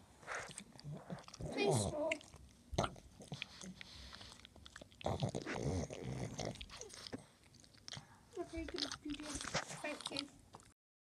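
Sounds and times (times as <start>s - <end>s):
dog chewing on toy: 0.3s - 10.8s.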